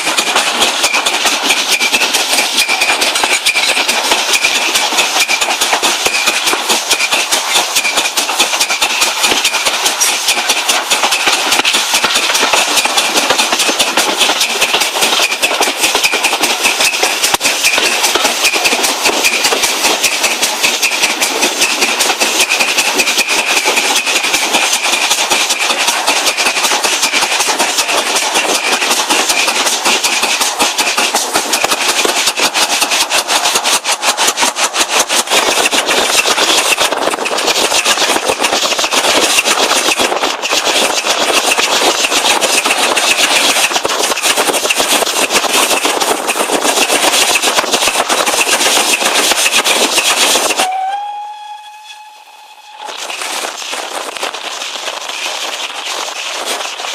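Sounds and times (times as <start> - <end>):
steam hissing: 0.0 - 56.9
steam train beats: 0.0 - 56.9.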